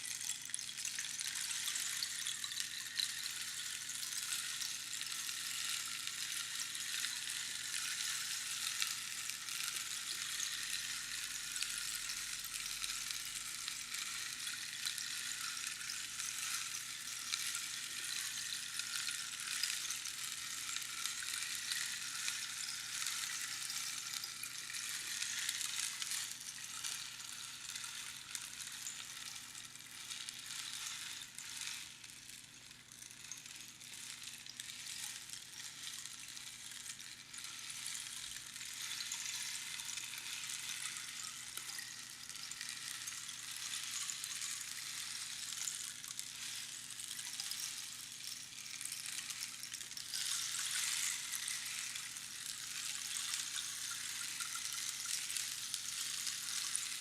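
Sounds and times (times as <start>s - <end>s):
rainstick patter: 0.0s - 57.0s.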